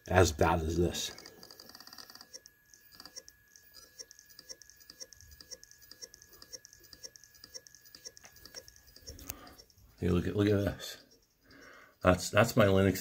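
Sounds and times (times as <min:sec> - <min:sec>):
hard drive clicking faintly: 0:00.8 - 0:12.7.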